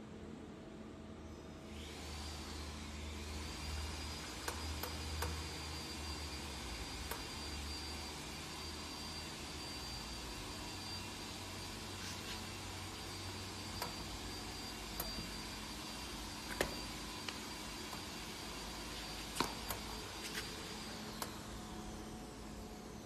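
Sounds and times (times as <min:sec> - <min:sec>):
table saw motor whine: 0:01.2 - 0:23.0.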